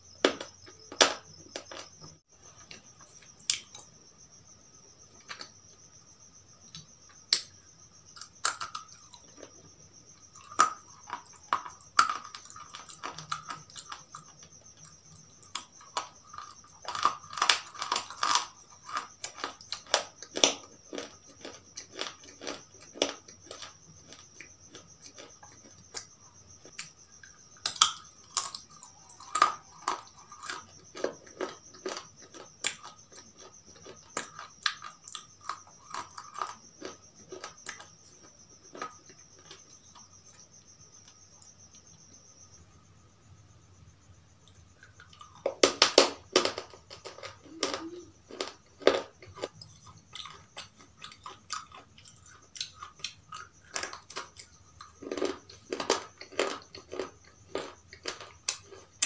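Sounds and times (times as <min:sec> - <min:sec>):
chewing and crunching: 0:00.2 - 0:03.9, 0:05.1 - 0:05.6, 0:06.6 - 0:41.8, 0:44.4 - 0:59.0.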